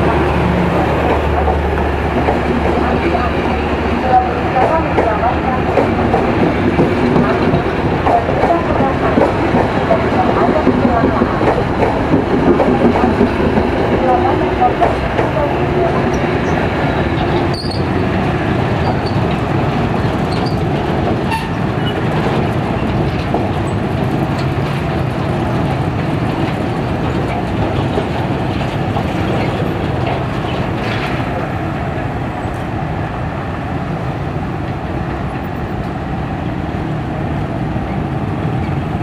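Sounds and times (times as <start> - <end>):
train coaches rolling on rails: 0.0 - 39.0.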